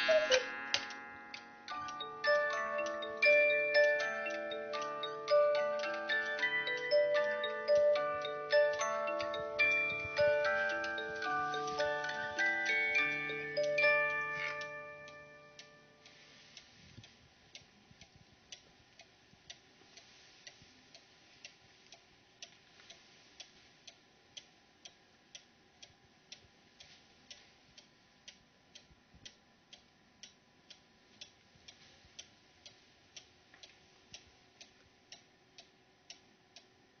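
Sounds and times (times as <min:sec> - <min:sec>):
clock ticking faintly: 0:00.0 - 0:36.8.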